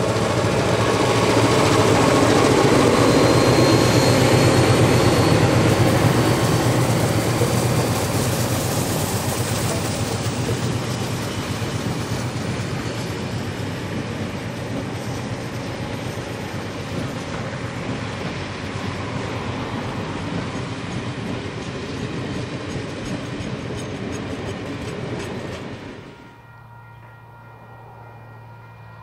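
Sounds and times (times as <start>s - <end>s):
train wheels rumbling on rails: 0.0s - 26.4s.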